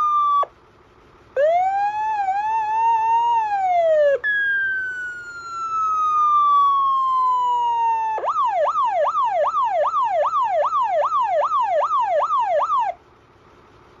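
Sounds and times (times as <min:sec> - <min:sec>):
electronic siren wailing and yelping: 0:00.0 - 0:00.5, 0:01.4 - 0:13.0
truck engine idling: 0:00.0 - 0:14.0.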